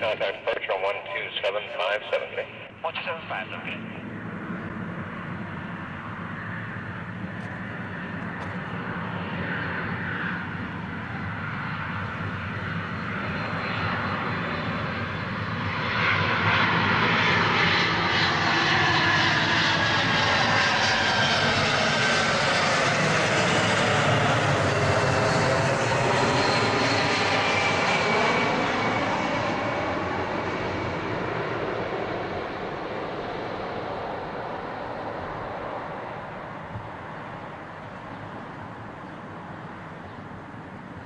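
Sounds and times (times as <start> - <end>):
jet engines on approach: 0.0 - 41.0.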